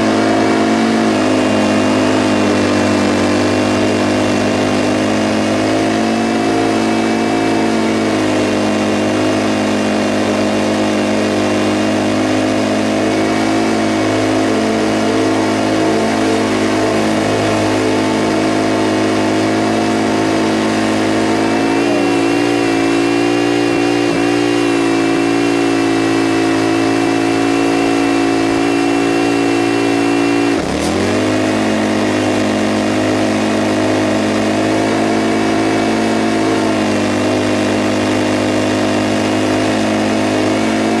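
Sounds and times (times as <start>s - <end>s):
mower engine running: 0.0s - 41.0s.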